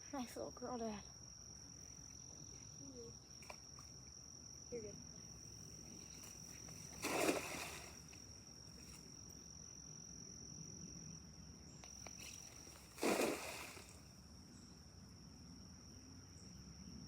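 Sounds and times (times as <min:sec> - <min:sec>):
crickets buzzing: 0:00.0 - 0:17.0.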